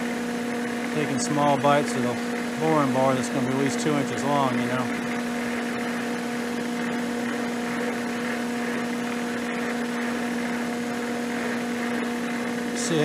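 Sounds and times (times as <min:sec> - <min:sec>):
end mill cutting metal: 0:00.0 - 0:13.0
milling machine electric hum: 0:00.0 - 0:13.0.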